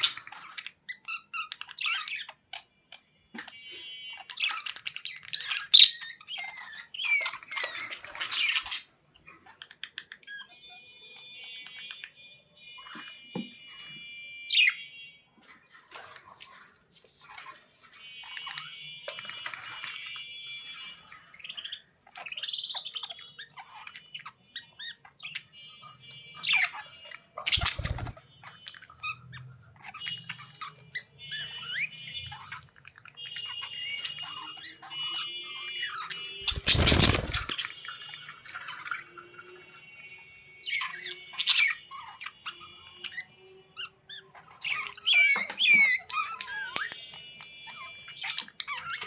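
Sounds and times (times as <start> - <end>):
budgerigars chattering and warbling: 0.0 - 2.7, 3.4 - 10.6, 15.9 - 39.6, 40.6 - 46.9.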